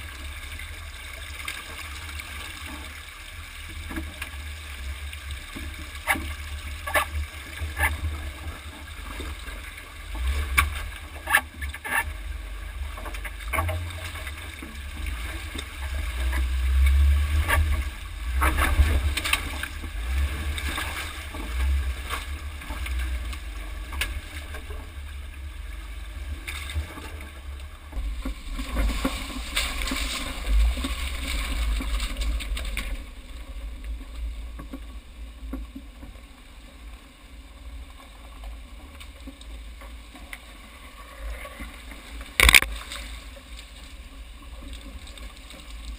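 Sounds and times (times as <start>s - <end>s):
water splashing: 0.0s - 36.4s, 37.4s - 45.9s
low engine rumble: 0.0s - 45.9s.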